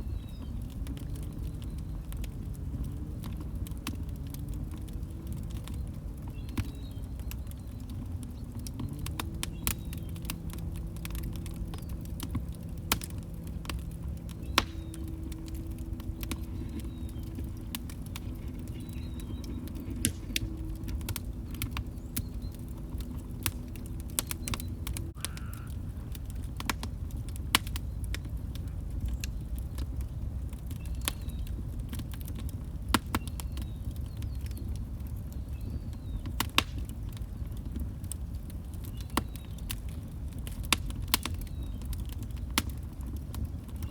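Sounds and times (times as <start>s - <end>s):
log fire crackling and popping: 0.0s - 43.9s.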